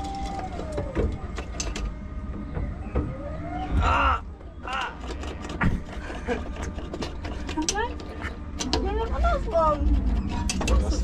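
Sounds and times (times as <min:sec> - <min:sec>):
ride car rumbling and rattling: 0:00.0 - 0:11.0.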